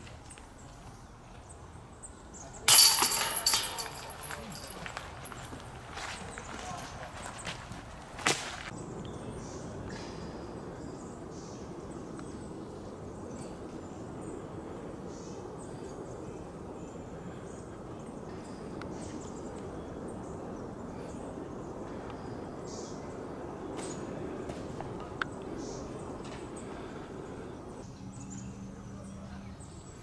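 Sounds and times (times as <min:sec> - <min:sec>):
even low rush: 0:03.7 - 0:29.0.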